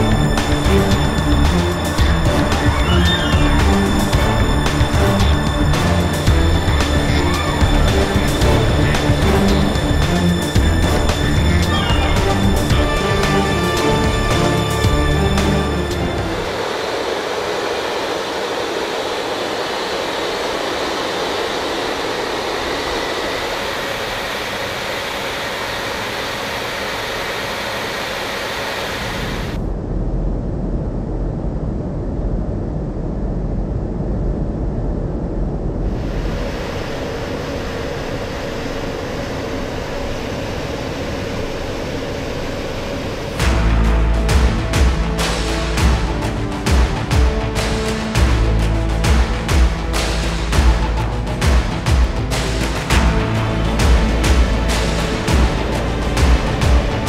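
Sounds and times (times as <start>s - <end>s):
jet engines in cabin: 0.0s - 57.0s.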